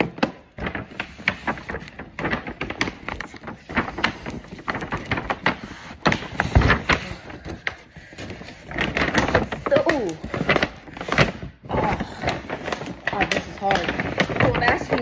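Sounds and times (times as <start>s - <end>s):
paper bag crinkling: 0.0s - 15.0s.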